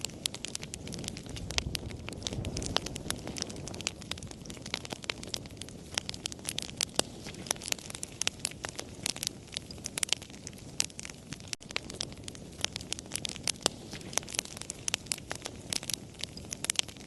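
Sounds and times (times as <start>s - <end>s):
low rush of flames: 0.0s - 17.0s
wood fire popping and snapping: 0.0s - 17.0s.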